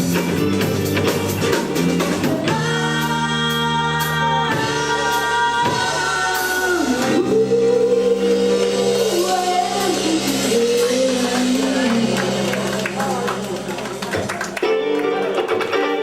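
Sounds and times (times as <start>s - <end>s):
rock band playing with singing: 0.0s - 16.0s.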